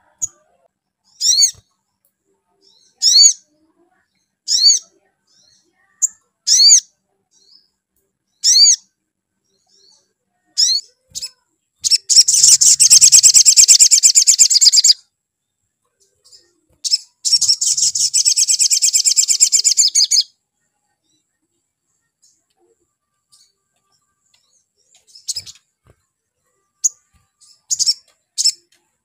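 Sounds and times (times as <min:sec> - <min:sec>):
sunbird chirps and trills: 0:01.0 - 0:29.0.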